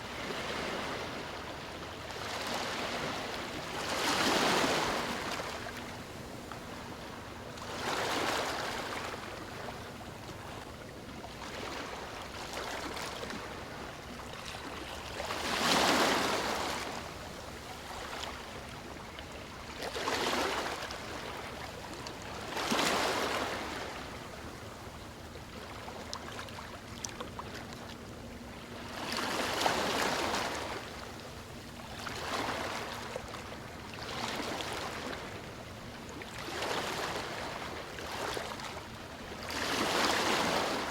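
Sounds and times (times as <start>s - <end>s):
ocean waves lapping on shore: 0.0s - 40.9s.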